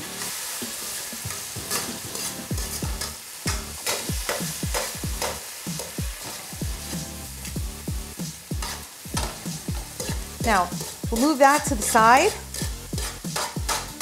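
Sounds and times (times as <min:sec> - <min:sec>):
vegetables sizzling in a pan: 0:00.0 - 0:14.0
metal utensil scraping a pan: 0:00.1 - 0:06.6, 0:08.6 - 0:14.0.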